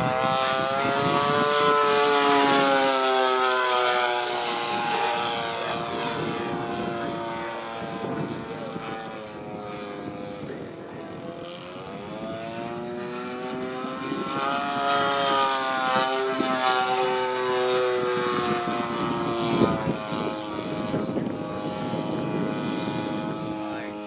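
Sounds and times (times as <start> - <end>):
model plane engine flying overhead: 0.0 - 24.0.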